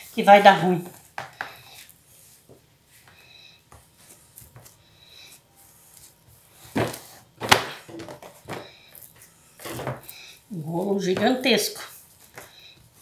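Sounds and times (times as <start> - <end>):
hands rolling dough on tray: 0.0 - 13.0.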